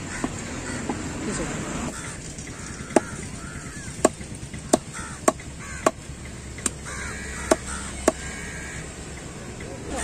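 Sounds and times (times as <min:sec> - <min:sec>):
bird calls: 0:00.0 - 0:10.0.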